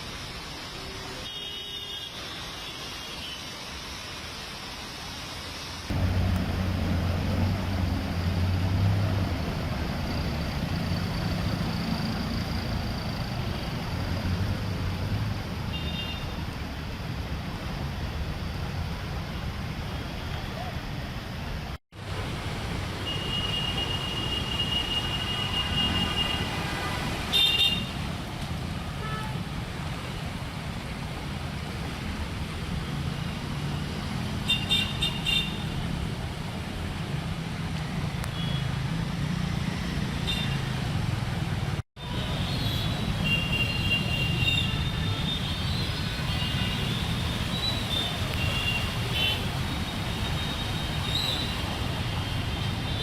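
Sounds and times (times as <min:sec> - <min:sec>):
road traffic: 0:00.0 - 0:53.0.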